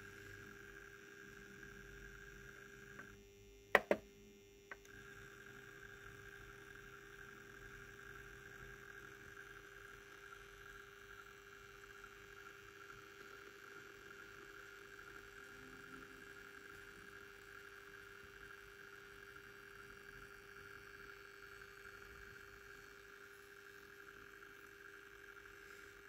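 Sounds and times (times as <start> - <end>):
model train motor whine: 0.0 - 3.2, 4.8 - 26.0.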